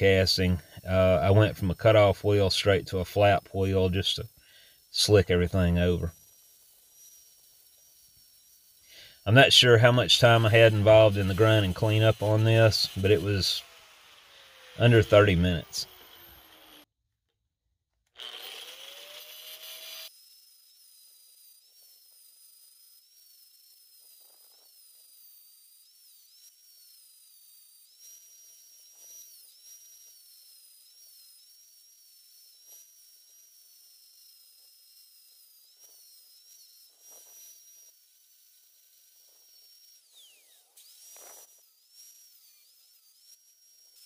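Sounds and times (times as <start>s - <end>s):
grinder grinding metal: 0.0s - 16.9s, 18.1s - 44.0s
high-pitched grinder whine: 0.0s - 16.9s, 18.1s - 44.0s.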